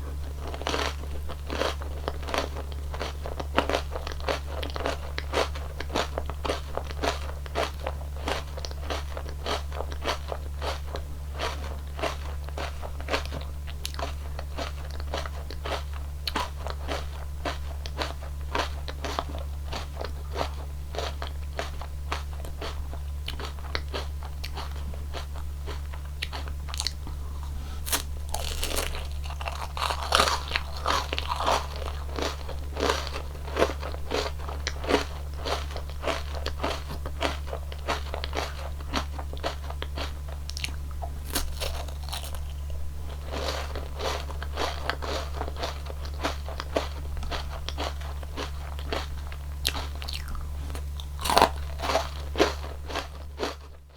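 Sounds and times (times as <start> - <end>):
crunching wafer ice cream cone: 0.0 - 53.9
steady low hum: 0.0 - 53.9.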